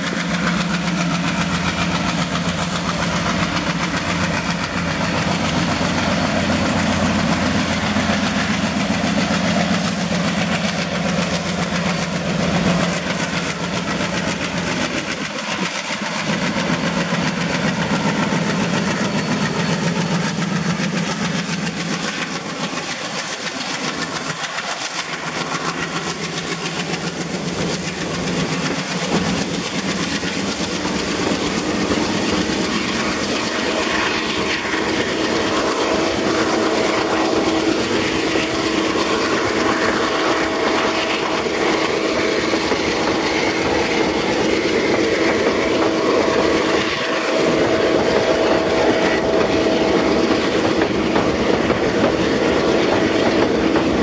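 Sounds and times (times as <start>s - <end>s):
diesel locomotive engine drone: 0.0s - 54.0s
train wheels clacking over rail joints: 0.0s - 54.0s.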